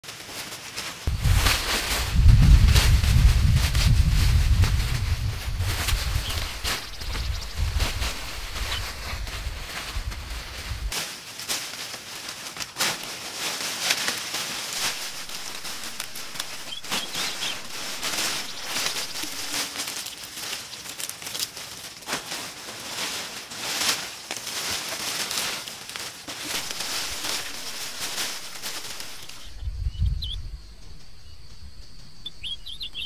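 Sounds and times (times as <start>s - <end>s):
leafy brush rustling: 0.0s - 33.0s.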